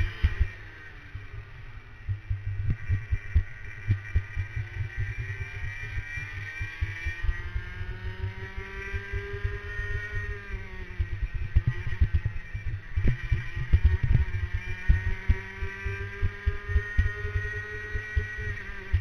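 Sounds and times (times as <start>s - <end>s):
kart engine at speed: 0.0s - 19.0s.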